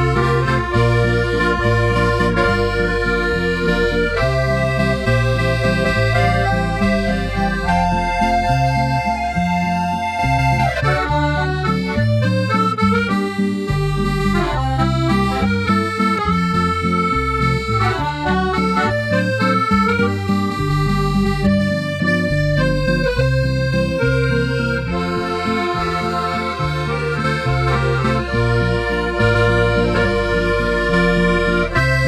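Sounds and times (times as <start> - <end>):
background music with bass line: 0.0 - 32.0.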